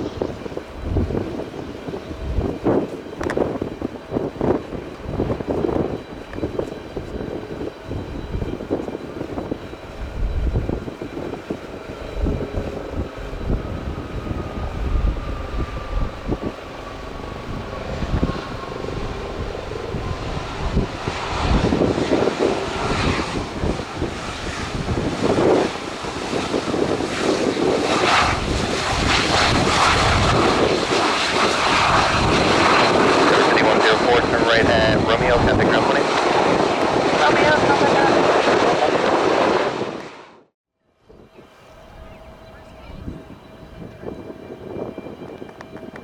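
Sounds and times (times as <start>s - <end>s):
jet airliner engine whine: 0.0s - 46.0s
jet engine noise: 0.0s - 46.0s.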